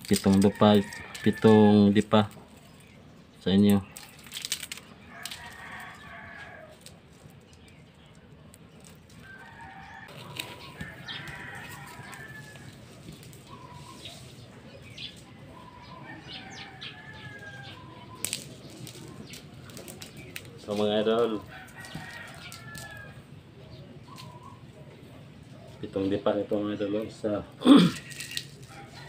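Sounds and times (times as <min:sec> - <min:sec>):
bird calls: 0:02.3 - 0:27.1.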